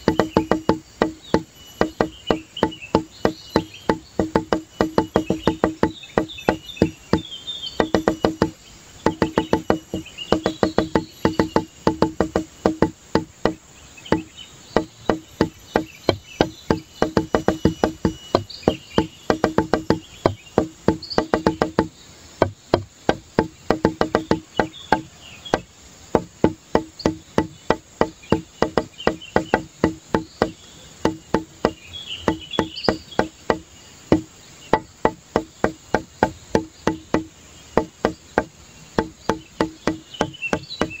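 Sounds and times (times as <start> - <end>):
high chirping sounds: 0.0 - 41.0
wood-block clicks with low notes: 0.0 - 41.0.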